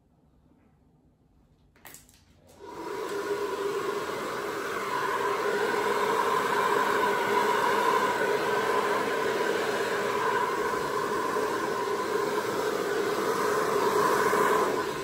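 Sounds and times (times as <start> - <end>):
electric air blower whirring: 2.5 - 15.0.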